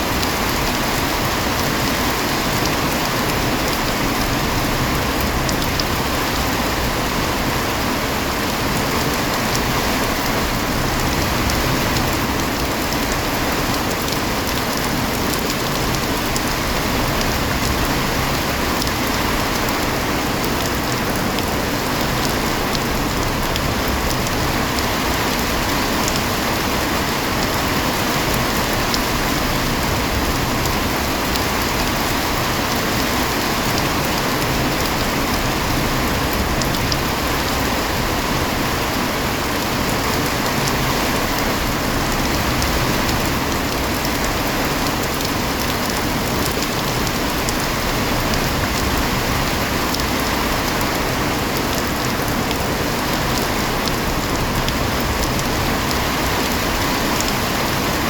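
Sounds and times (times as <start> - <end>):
rain falling: 0.0 - 58.0
raindrop ticks: 0.1 - 6.5, 8.7 - 57.7.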